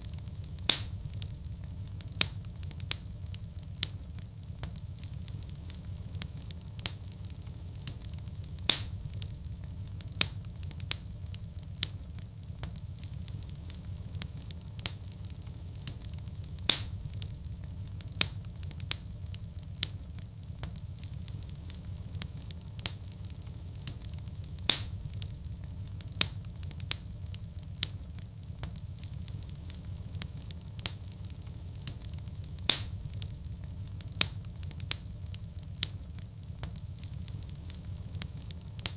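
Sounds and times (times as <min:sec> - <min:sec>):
fireplace fire crackling: 0:00.0 - 0:38.9
sharp fire pops: 0:00.0 - 0:38.9.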